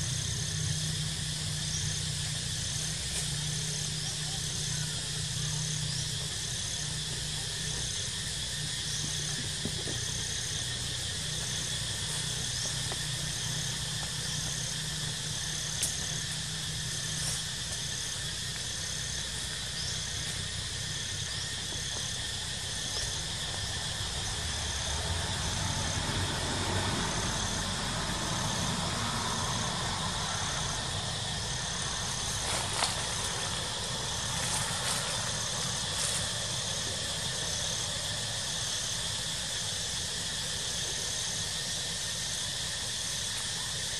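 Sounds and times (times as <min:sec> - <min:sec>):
insect chirping: 0:00.0 - 0:43.9
insect drone: 0:00.0 - 0:43.9.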